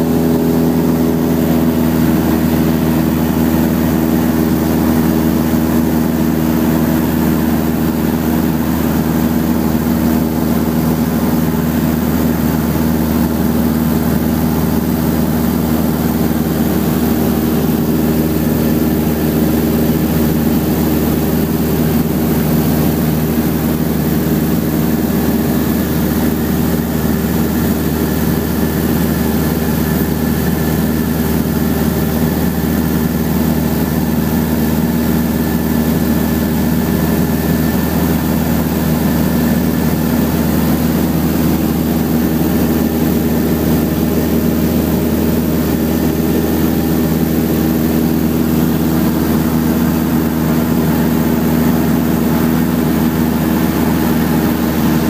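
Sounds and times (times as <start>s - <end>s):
propeller engine drone: 0.0s - 55.0s.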